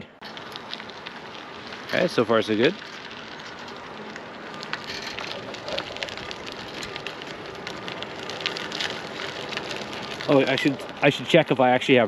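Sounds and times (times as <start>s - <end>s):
bicycle tyres rolling on asphalt: 0.2s - 12.0s.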